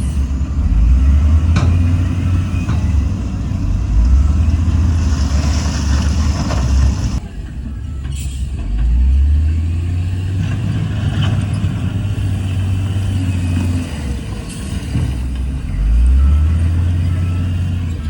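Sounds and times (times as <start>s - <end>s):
diesel machine engine running: 0.0s - 18.0s.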